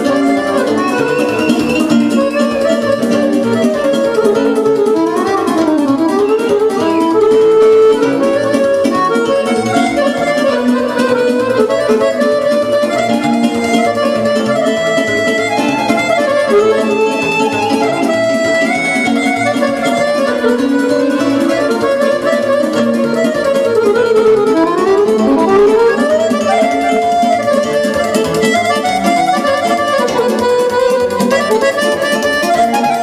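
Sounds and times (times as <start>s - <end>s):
accordion playing fast melody: 0.0s - 33.0s.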